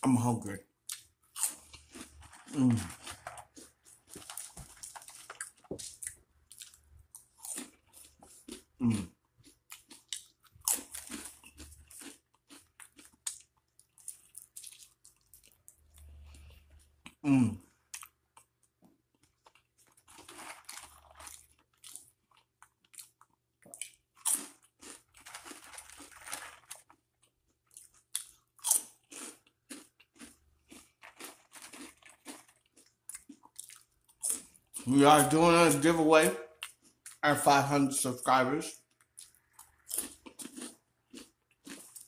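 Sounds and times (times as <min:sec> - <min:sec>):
person crunching and chewing: 0:00.8 - 0:37.2, 0:38.7 - 0:42.0.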